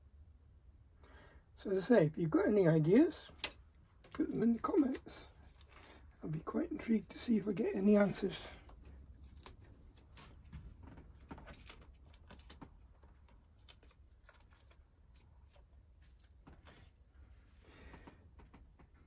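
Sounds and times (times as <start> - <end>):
faint clicks and rustles: 3.3 - 19.0.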